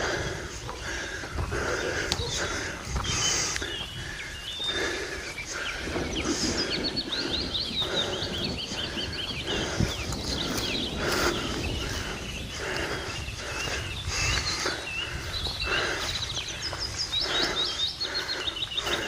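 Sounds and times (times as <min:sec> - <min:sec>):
footsteps crunching on gravel: 0:00.0 - 0:19.0.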